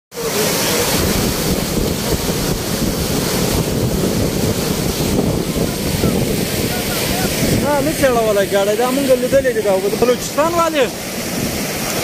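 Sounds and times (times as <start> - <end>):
flood water rushing: 0.1 - 12.0.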